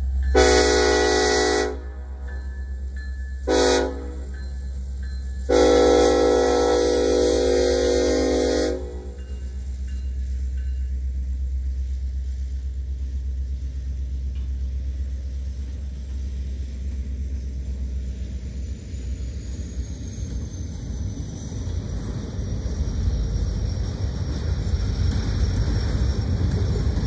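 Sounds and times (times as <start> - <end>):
freight train rumbling on rails: 0.0 - 27.0.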